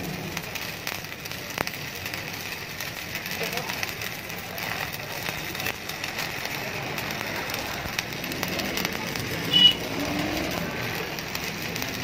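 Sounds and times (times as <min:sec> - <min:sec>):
arc welding hiss and crackle: 0:00.0 - 0:12.0.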